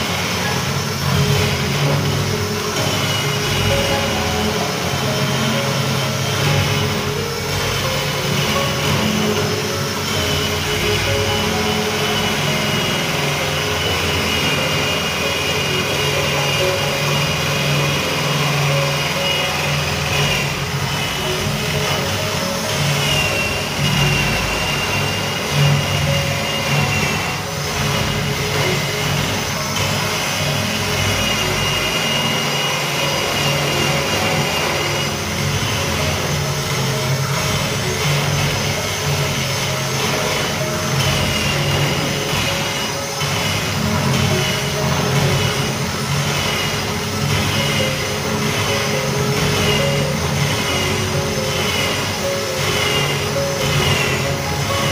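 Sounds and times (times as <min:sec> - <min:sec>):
electric drill boring into wood: 0:00.0 - 0:54.9.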